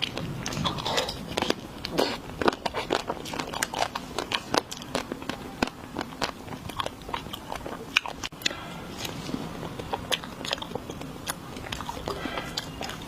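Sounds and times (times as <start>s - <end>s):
crunchy biting and chewing: 0.0s - 13.0s.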